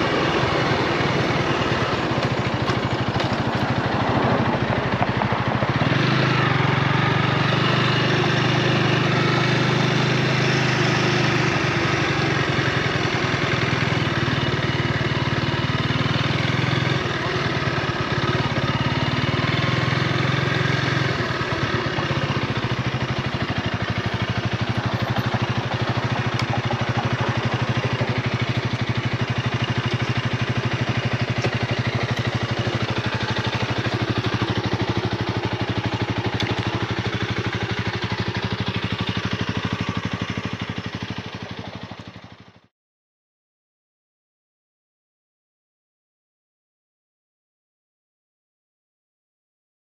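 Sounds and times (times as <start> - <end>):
motorcycle engine running: 0.0 - 42.7.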